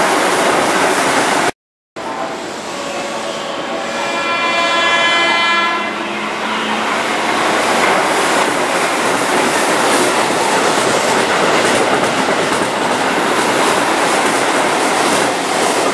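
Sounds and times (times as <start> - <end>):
train wheel and rail rush: 0.0 - 15.9.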